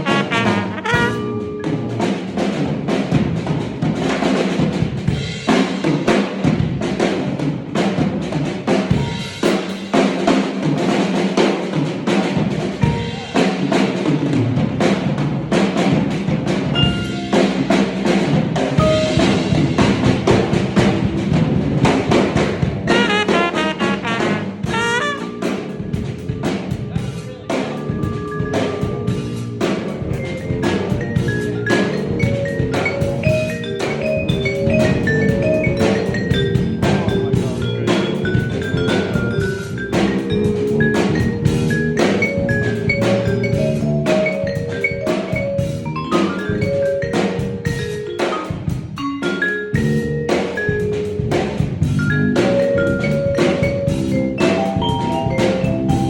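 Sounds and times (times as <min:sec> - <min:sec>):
drum kit snare and bass drum: 0:00.0 - 0:56.0
jazz-funk band playing: 0:00.0 - 0:56.0.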